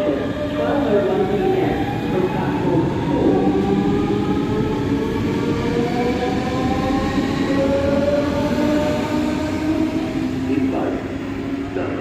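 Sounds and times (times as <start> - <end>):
low train running noise: 0.0 - 12.0.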